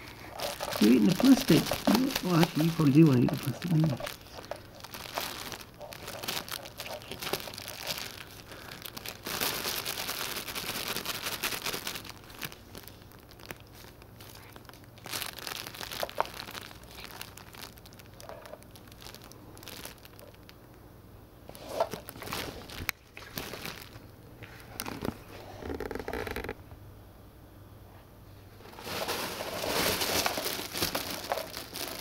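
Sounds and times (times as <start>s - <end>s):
cat chewing crinkly plastic: 0.0s - 20.7s, 21.4s - 26.4s, 28.6s - 32.0s.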